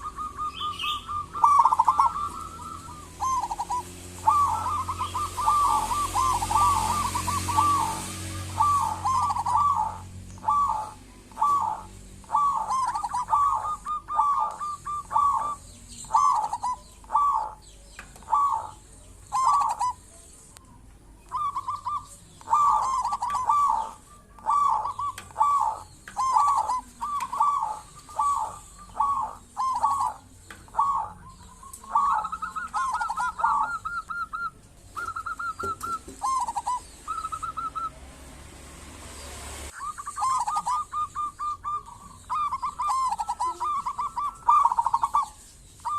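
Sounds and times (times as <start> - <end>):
dove cooing: 0.0 - 38.2, 39.7 - 45.9.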